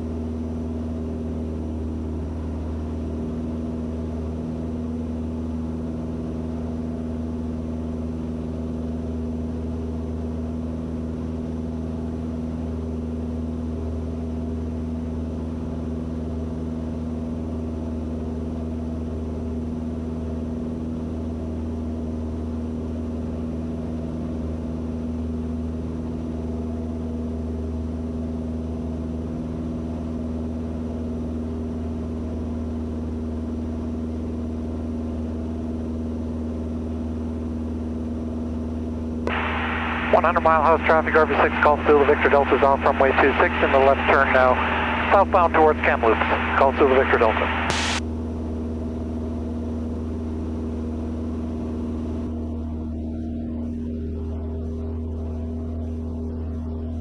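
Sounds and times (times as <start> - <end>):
aircraft engine and propeller drone: 0.0 - 57.0.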